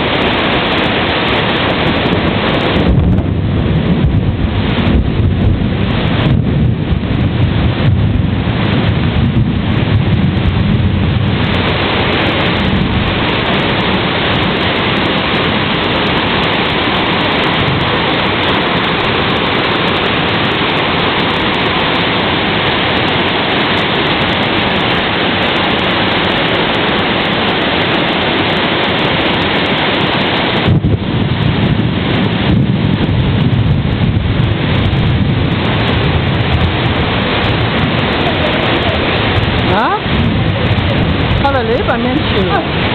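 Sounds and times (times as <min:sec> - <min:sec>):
heavy rain pouring: 0:00.0 - 0:42.9
low rumbling: 0:00.0 - 0:42.9.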